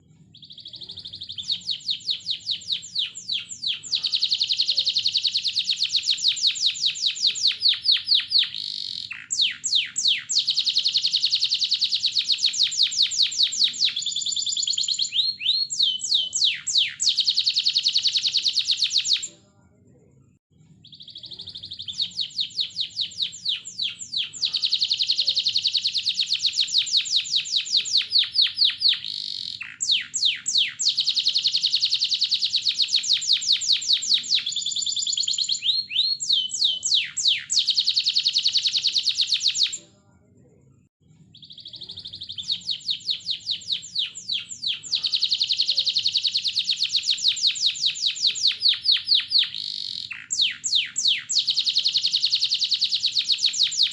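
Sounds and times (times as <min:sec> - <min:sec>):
canary singing trills: 0:00.0 - 0:19.4, 0:20.6 - 0:39.9, 0:41.2 - 0:53.9.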